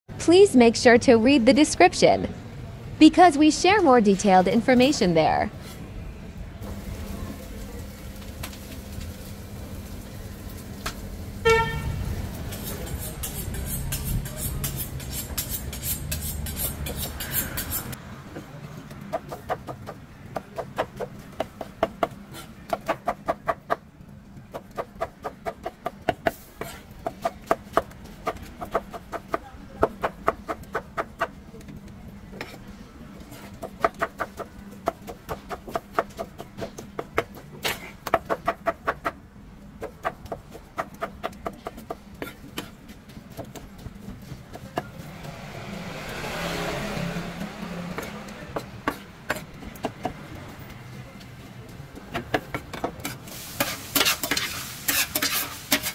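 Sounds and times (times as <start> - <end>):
street noise: 0.1 - 55.9.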